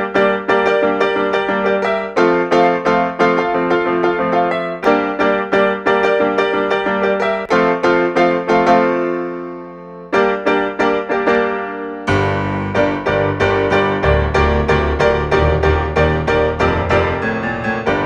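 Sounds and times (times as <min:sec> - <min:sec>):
solo piano playing: 0:00.0 - 0:18.0.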